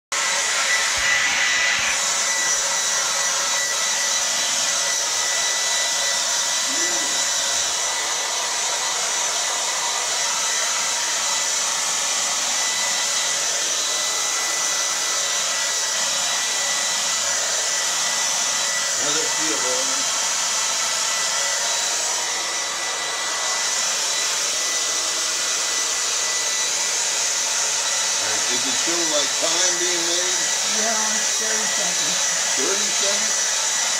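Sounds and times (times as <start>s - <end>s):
hair dryer blowing: 0.1s - 33.9s.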